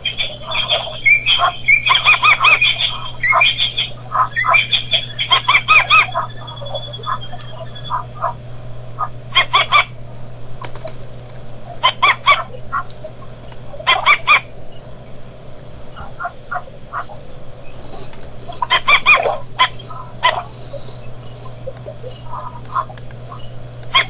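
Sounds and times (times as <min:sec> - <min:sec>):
birds calling sharp notes: 0:00.0 - 0:24.0
steady low hum: 0:00.0 - 0:24.0.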